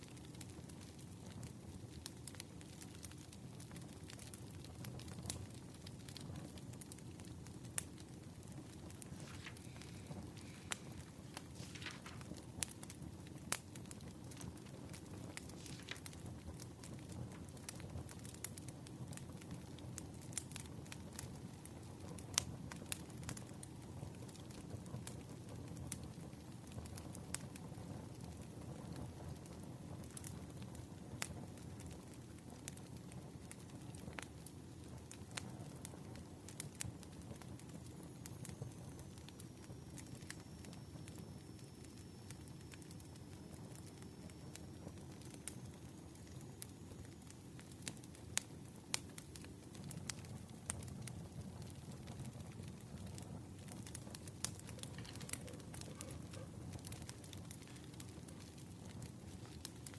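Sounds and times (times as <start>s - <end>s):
wood fire crackling: 0.0s - 59.9s
sharp pops of burning logs: 0.2s - 59.9s.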